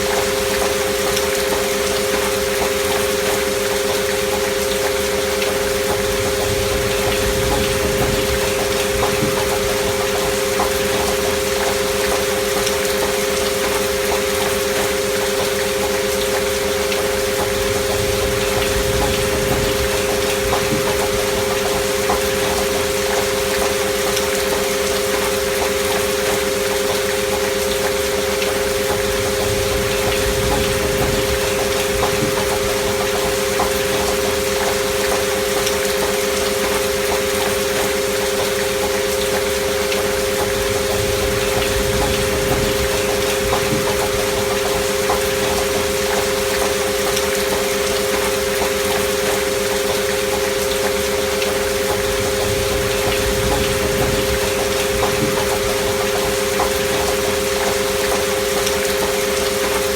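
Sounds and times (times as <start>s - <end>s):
continuous pure sine tones: 0.0s - 59.9s
steady rain: 0.0s - 59.9s.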